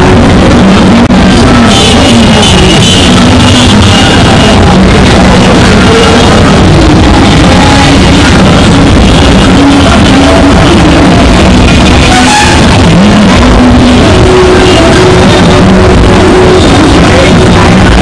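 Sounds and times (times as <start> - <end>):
loud music: 0.0 - 18.0.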